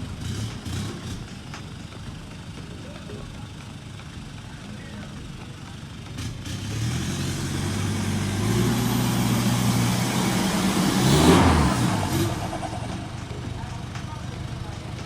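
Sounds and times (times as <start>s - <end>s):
off-road vehicle engine pulling: 0.0s - 15.0s.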